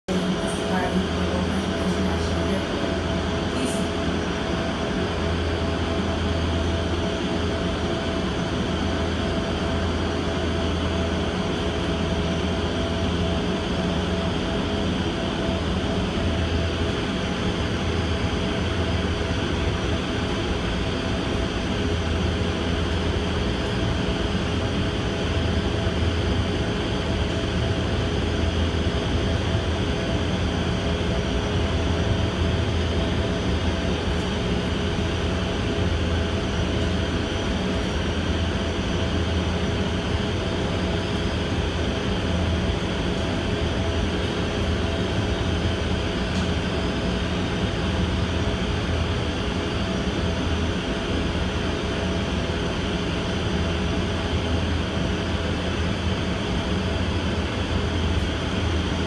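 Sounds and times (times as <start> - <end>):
steady hums: 0.1 - 59.0.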